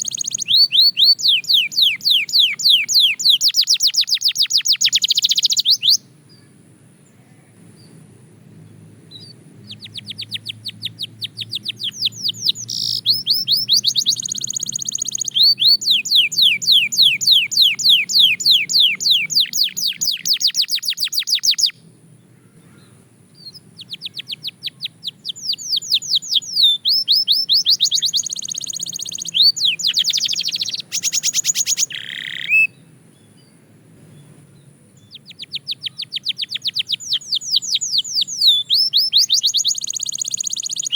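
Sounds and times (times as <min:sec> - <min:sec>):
canary singing trills: 0:00.0 - 0:06.6, 0:09.1 - 0:21.9, 0:22.6 - 0:40.9.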